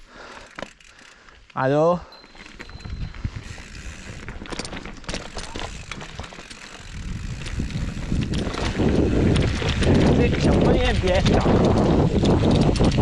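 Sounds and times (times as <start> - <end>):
bike clicks and rattles: 0.0 - 13.0
bike tyres rolling over dirt: 0.0 - 13.0.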